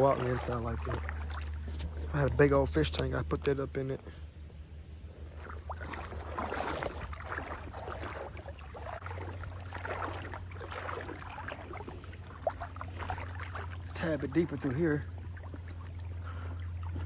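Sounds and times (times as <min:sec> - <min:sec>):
person wading through creek water: 0:00.0 - 0:17.0.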